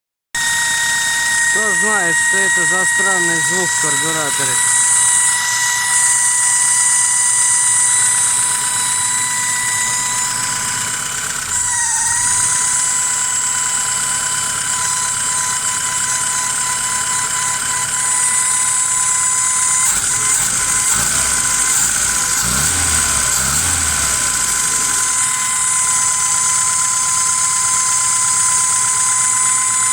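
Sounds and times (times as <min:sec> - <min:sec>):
engine running: 0:00.4 - 0:29.8
high-pitched carburettor whistle: 0:00.4 - 0:29.9.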